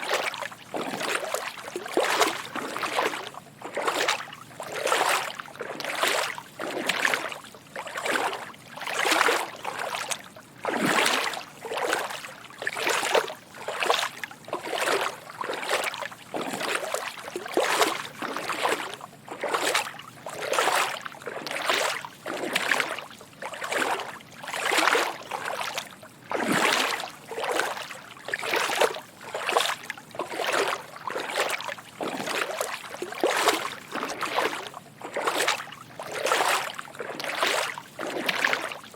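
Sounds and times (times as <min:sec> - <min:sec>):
footsteps wading through water: 0:00.0 - 0:38.9.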